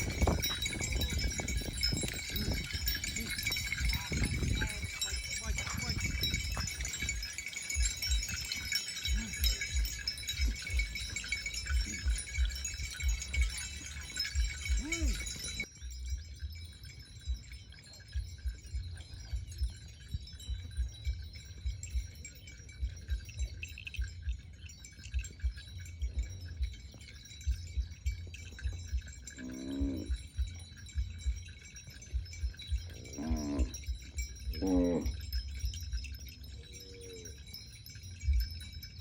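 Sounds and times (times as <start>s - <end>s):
small bell tinkling: 0.0s - 39.0s.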